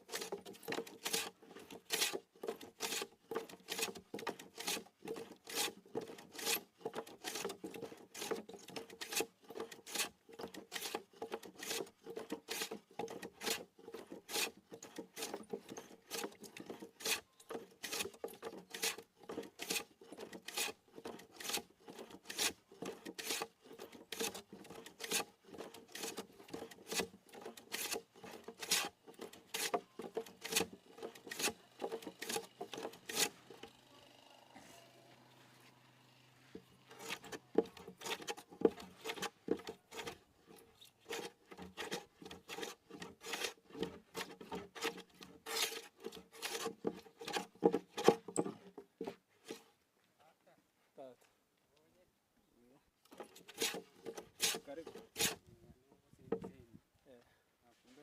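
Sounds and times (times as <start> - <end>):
rasp scraping wood: 0.0 - 34.6, 36.4 - 49.8, 53.1 - 55.6.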